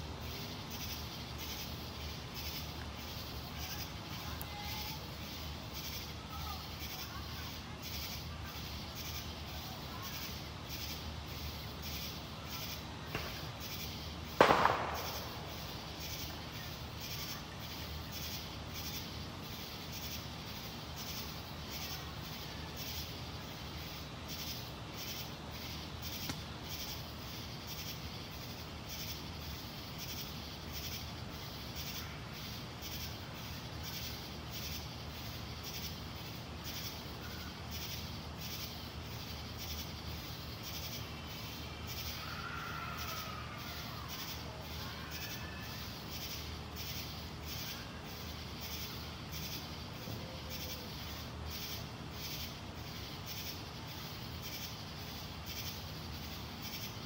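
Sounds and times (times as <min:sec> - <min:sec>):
insects pulsing chorus: 0:00.0 - 0:57.0.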